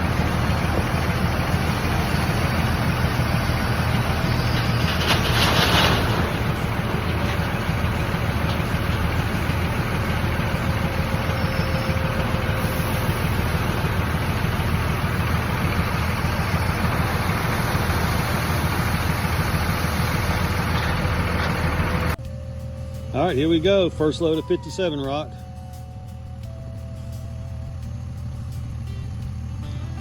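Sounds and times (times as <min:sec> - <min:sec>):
heavy machine engine idling: 0:00.0 - 0:30.0.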